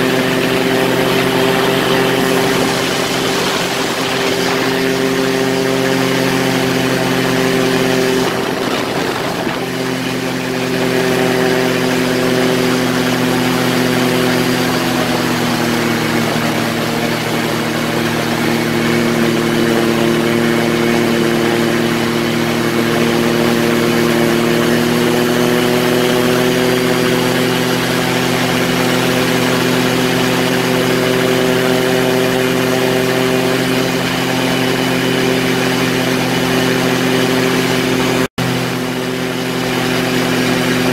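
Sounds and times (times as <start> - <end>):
light aircraft engine and propeller: 0.0 - 40.9.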